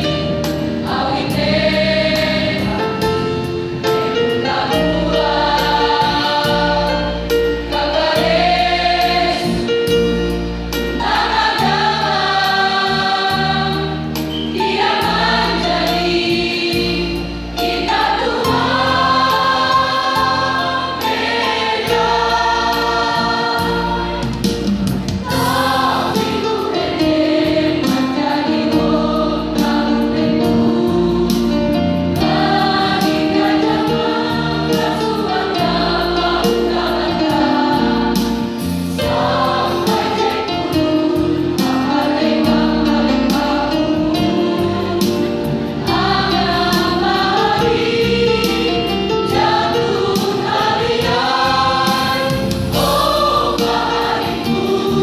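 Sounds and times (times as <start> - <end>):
choir singing: 0.0 - 24.6, 25.2 - 55.0.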